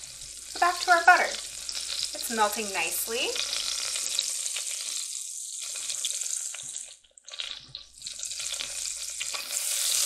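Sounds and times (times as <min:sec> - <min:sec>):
butter sizzling in a pot: 0:00.0 - 0:10.0.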